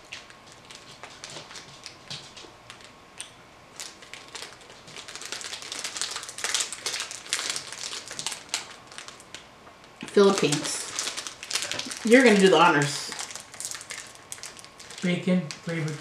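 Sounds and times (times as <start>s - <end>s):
plastic wrapper crinkling: 0.0s - 2.9s, 3.7s - 16.0s.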